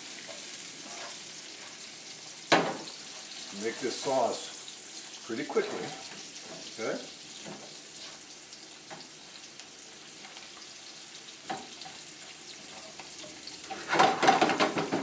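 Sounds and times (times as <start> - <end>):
spatula stirring in a pan: 0.0 - 14.9
vegetables sizzling in oil: 0.0 - 15.0.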